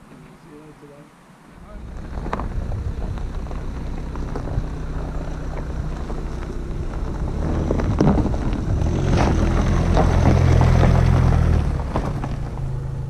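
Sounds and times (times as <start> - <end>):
car engine humming: 0.0 - 13.0
tyres crackling on gravel: 1.6 - 13.0.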